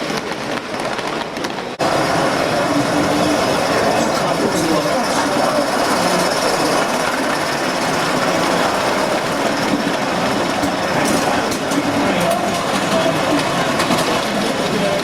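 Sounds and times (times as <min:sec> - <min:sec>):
model train wheels rattling: 0:00.0 - 0:15.0.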